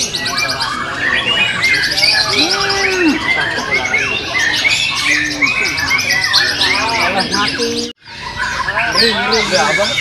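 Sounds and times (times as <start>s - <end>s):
birds singing: 0.0s - 10.0s.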